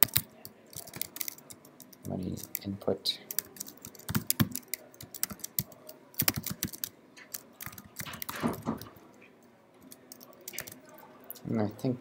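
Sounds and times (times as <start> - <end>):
computer keyboard typing: 0.0 - 9.1, 9.8 - 11.4.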